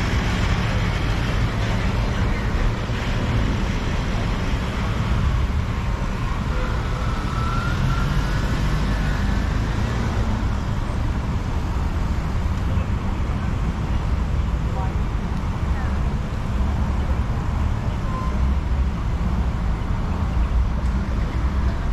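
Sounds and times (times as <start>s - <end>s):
road traffic rumble: 0.0s - 21.9s.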